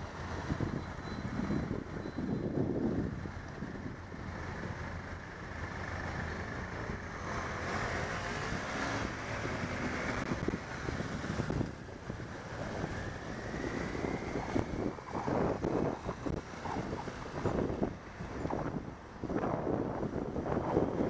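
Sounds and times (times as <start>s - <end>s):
road traffic noise: 0.0s - 21.0s
wind on microphone: 0.1s - 4.3s, 8.2s - 21.0s.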